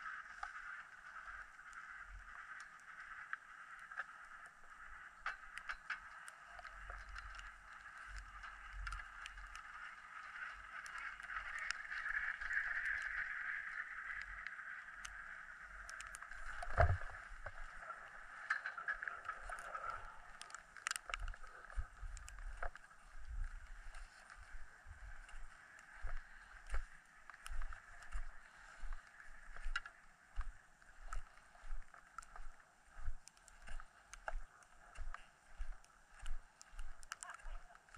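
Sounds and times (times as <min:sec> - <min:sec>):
skis sliding over snow: 0:00.0 - 0:05.2, 0:06.0 - 0:32.6.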